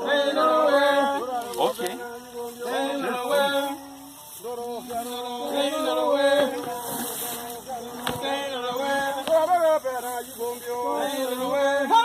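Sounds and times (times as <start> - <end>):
men chanting a work song: 0.0 - 12.0.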